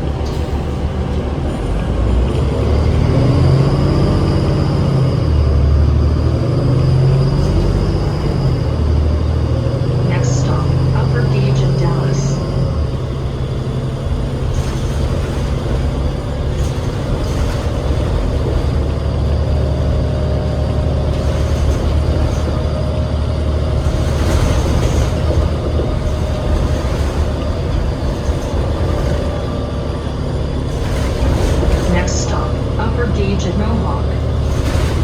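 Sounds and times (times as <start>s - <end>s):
bus diesel engine rumbling: 0.0s - 35.0s.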